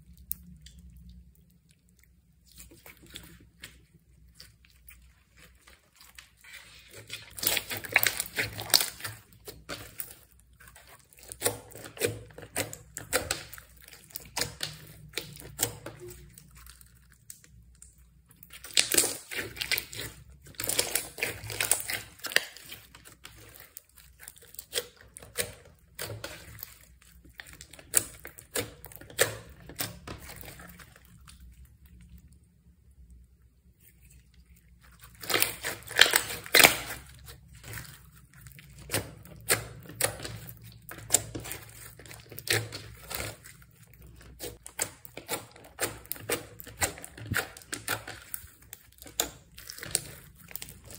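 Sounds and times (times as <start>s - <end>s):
slime squished by hand: 0.0s - 50.9s.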